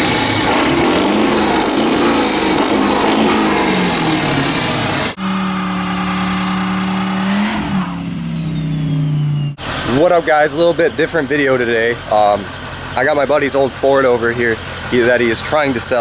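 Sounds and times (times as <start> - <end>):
diesel engine revving: 0.0 - 15.8.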